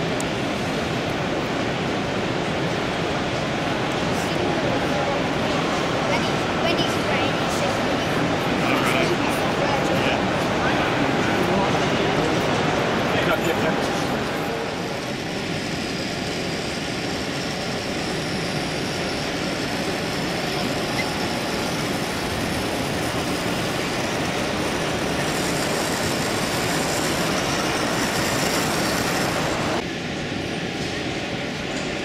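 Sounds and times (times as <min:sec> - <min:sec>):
model train rolling: 0:00.0 - 0:32.0.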